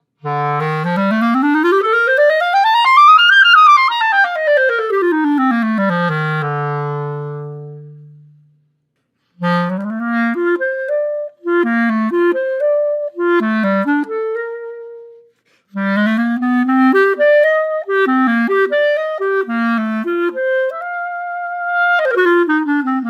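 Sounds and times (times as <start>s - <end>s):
solo clarinet: 0.0s - 23.0s.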